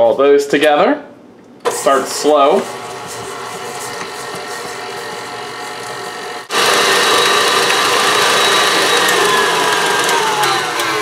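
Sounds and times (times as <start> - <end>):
stand mixer motor running: 1.7 - 11.0.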